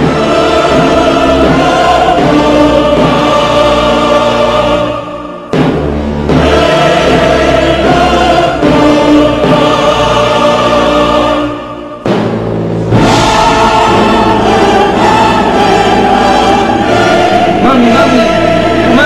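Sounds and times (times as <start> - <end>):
choral music with orchestra: 0.0 - 19.0
timpani: 0.0 - 19.0.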